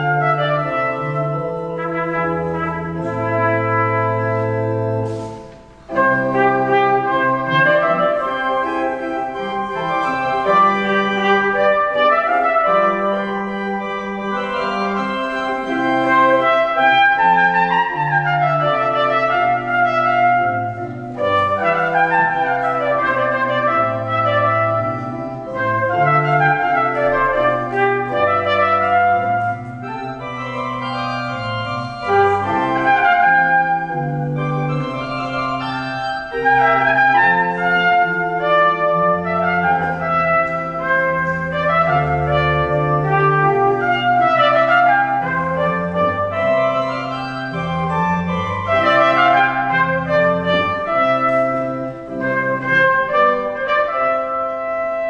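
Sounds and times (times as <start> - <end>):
pipe organ: 0.0 - 55.0
trumpet: 0.0 - 55.0.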